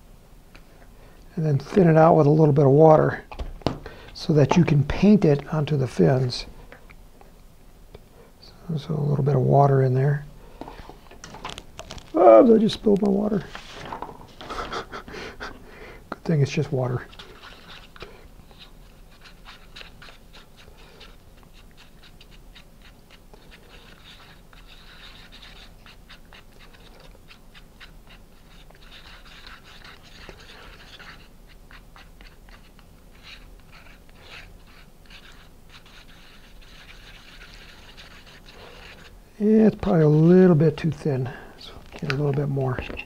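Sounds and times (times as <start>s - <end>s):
stir stick scraping paper cup: 4.0s - 6.6s, 8.6s - 14.9s, 16.2s - 43.0s.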